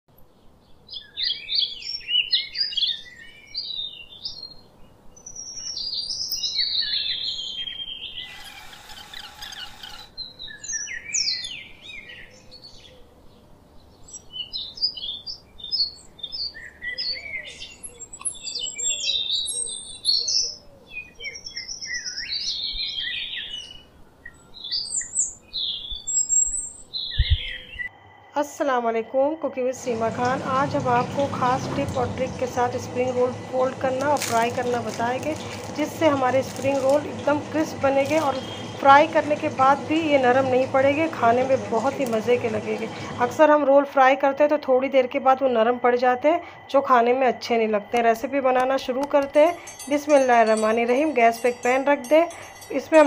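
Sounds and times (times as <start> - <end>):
birds chirping: 0.3 - 27.9, 29.8 - 43.6, 48.0 - 53.0.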